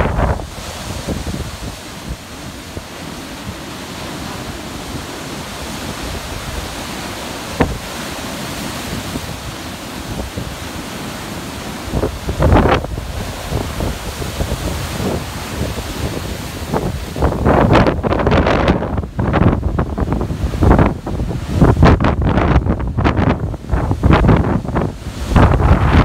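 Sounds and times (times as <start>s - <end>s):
surf breaking on beach: 0.0s - 26.0s
wind buffeting microphone: 0.0s - 26.0s.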